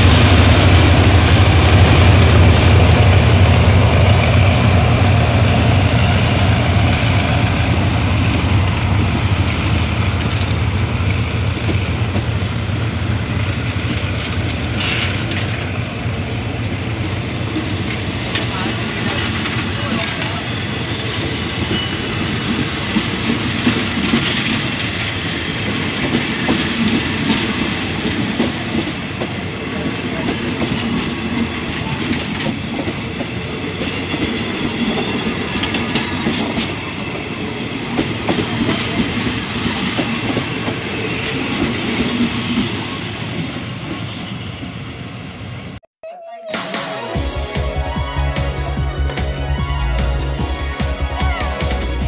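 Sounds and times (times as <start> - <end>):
train wheels clickety-clack: 0.0 - 44.8
train coaches rumbling past: 0.0 - 45.8, 46.6 - 52.0.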